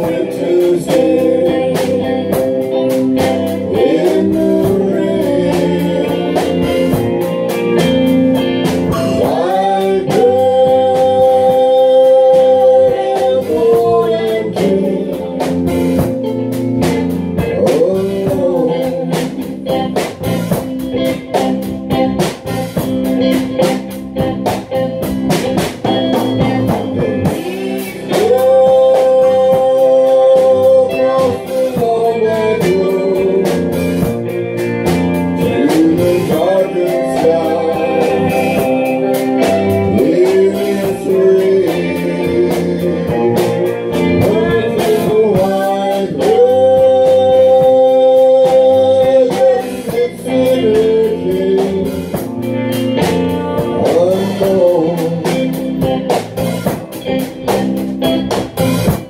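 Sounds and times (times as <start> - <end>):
person singing: 0.0 - 23.9, 25.7 - 58.1
strummed guitar chords: 0.0 - 59.0.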